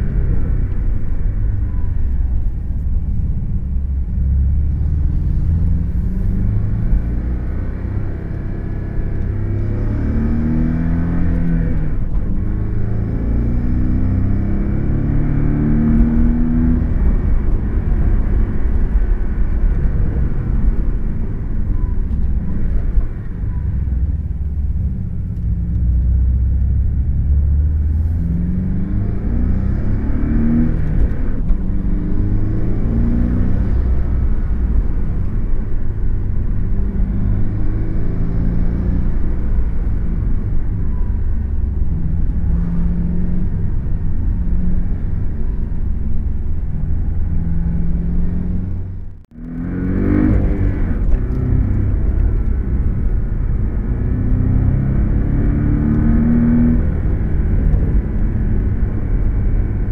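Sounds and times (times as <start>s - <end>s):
car engine accelerating: 0.0s - 59.9s
road noise: 0.0s - 59.9s.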